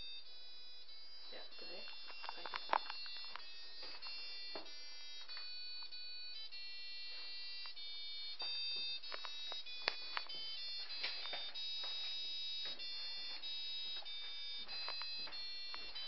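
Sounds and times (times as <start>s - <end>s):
washing machine playing a tune: 0.0s - 16.0s.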